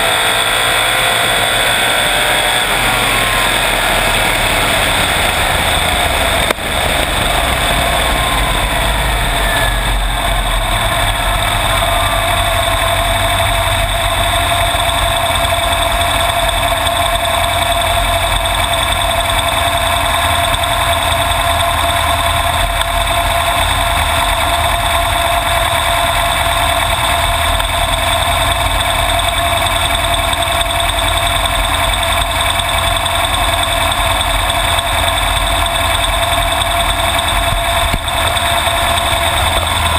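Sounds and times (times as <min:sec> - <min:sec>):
falling whine: 0:00.0 - 0:39.9
vee eight engine running: 0:00.0 - 0:39.9.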